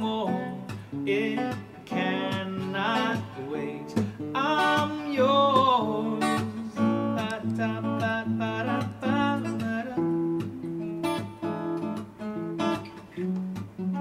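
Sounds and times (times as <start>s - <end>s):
acoustic guitar strummed: 0.0s - 14.0s.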